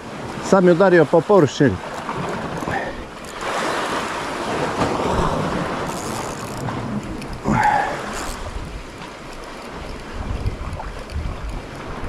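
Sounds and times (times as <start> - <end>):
waves washing against rocks: 0.0 - 12.0
wind on microphone: 1.8 - 12.0.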